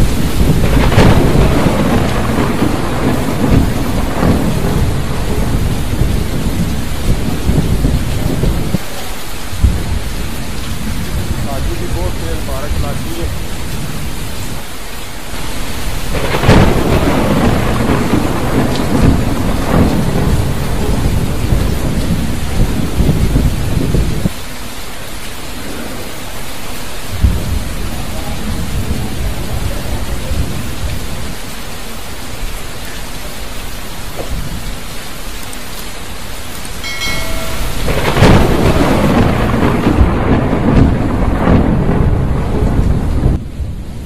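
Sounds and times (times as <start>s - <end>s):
thunder clap and rumble: 0.0s - 8.9s, 9.5s - 14.7s, 15.3s - 24.4s, 27.0s - 32.8s, 33.6s - 44.0s
heavy rain: 0.0s - 44.0s.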